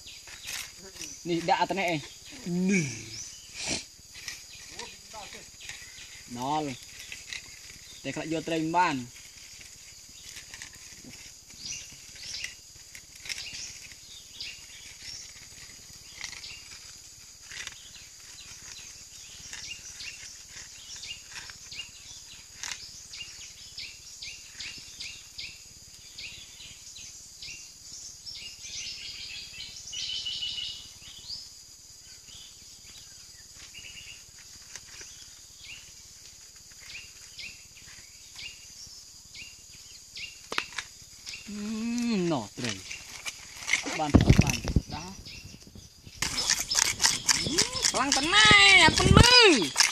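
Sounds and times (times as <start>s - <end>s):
birds chirping: 0.0s - 49.9s
insects humming: 0.0s - 49.9s.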